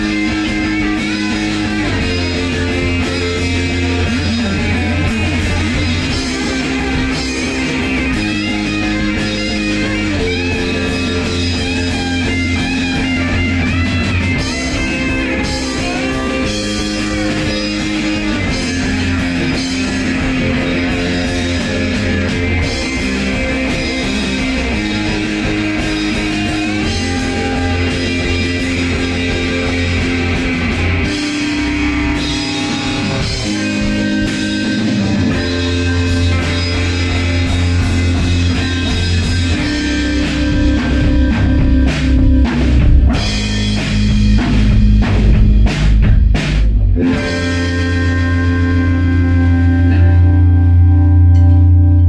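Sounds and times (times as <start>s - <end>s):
bending lead guitar: 0.0s - 52.0s
rock band playing: 0.0s - 52.0s.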